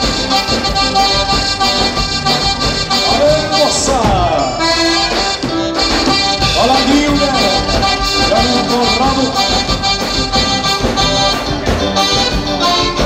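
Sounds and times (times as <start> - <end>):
accordion melody: 0.0 - 13.0
live band playing: 0.0 - 13.0.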